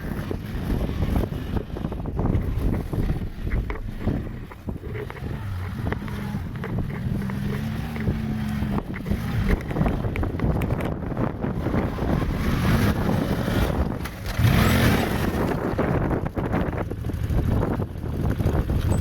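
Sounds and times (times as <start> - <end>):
atv engine running: 0.0 - 19.0
knocks and rattles over bumps: 0.0 - 19.0.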